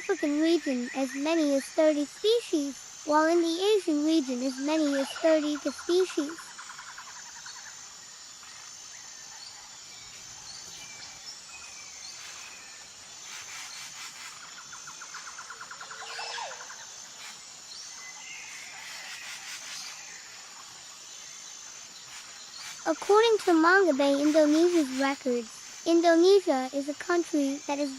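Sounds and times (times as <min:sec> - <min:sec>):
high insect drone: 0:00.0 - 0:27.9.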